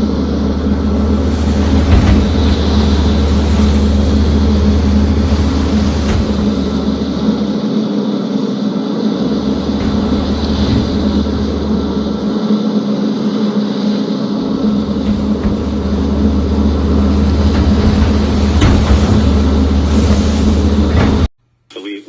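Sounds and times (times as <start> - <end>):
boat engine droning: 0.0 - 21.3.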